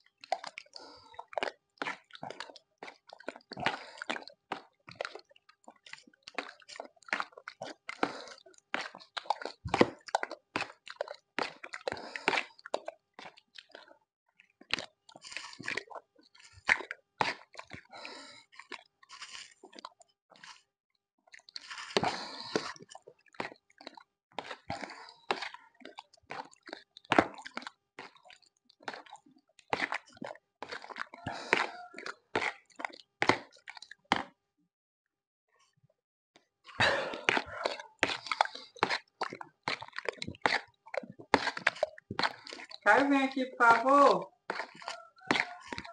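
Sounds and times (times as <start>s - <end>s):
slurping and chewing: 0.0s - 20.7s, 21.3s - 34.4s, 36.4s - 45.9s.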